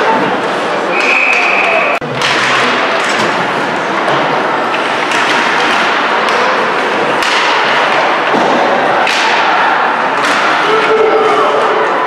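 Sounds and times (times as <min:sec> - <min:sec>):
ice rink noise: 0:00.0 - 0:12.0
hockey sticks knocking puck: 0:00.9 - 0:11.2.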